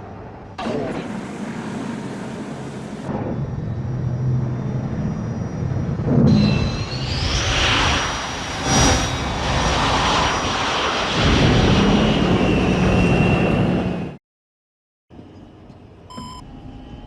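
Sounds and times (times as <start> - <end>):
jet thruster roar: 0.0 - 14.2.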